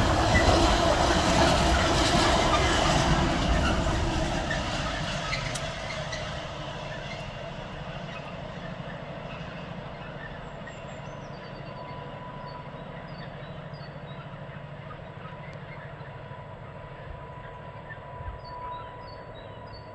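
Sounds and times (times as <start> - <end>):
freight wagons rumbling on rails: 0.0 - 19.9.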